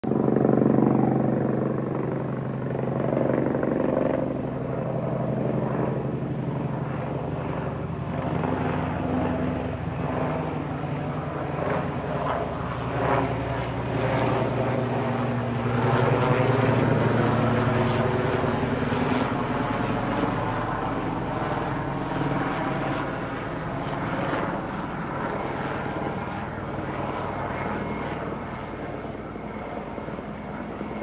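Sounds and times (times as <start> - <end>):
helicopter rotor chopping: 0.0 - 31.0.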